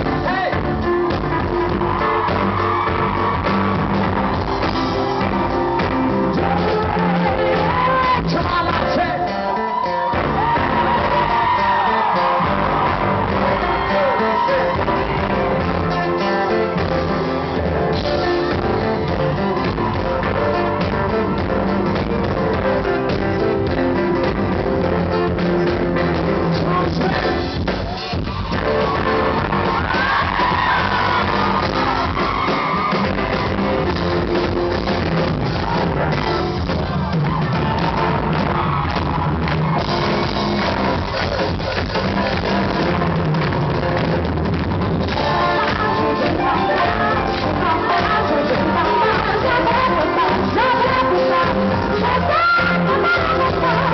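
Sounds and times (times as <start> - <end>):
guitar: 0.0 - 53.9
live pop-rock band music: 0.0 - 53.9.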